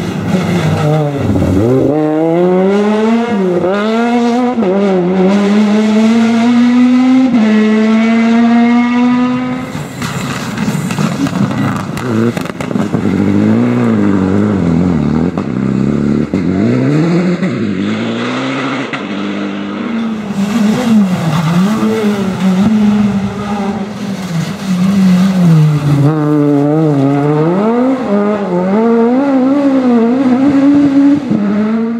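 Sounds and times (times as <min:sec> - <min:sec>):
rally car engines revving: 0:00.0 - 0:31.9.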